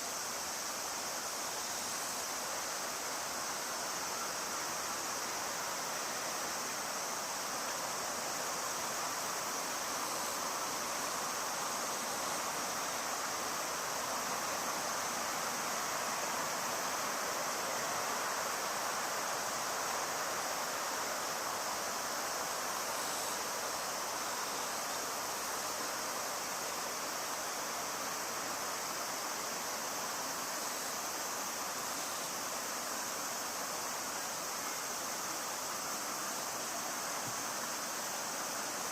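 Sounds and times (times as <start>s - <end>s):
insects droning: 0.0s - 38.9s
river water rushing: 0.0s - 38.9s.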